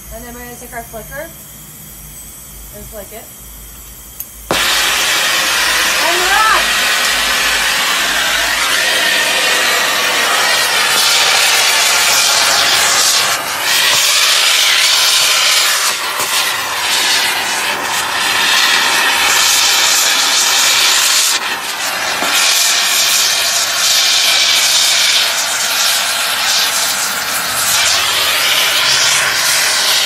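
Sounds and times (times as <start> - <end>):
gas torch hissing: 0.0 - 30.0.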